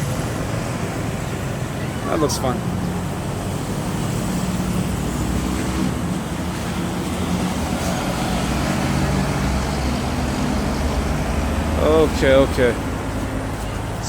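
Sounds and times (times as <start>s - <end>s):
city traffic passing: 0.0s - 14.0s.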